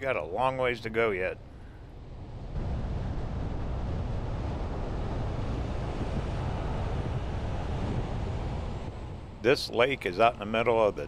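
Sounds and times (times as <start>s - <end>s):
vehicle road and wind noise: 0.0s - 11.0s.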